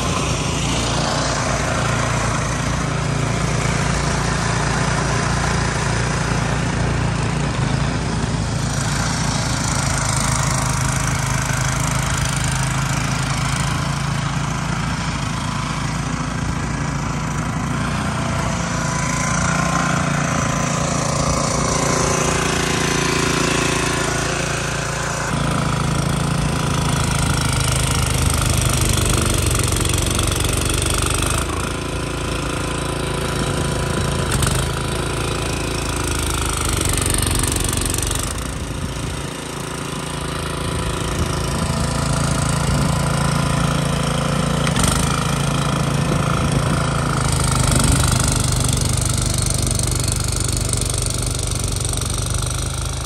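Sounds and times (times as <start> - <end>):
snowblower engine running: 0.0 - 53.0.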